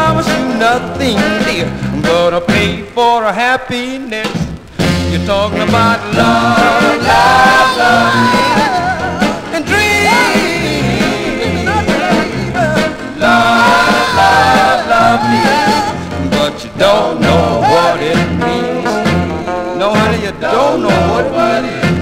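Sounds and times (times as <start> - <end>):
rhythm and blues dance music: 0.0 - 22.0.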